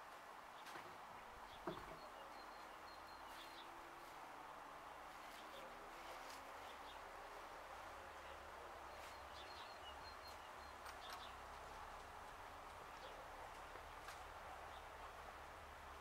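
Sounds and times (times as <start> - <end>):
distant birds chirping: 0.4 - 16.0.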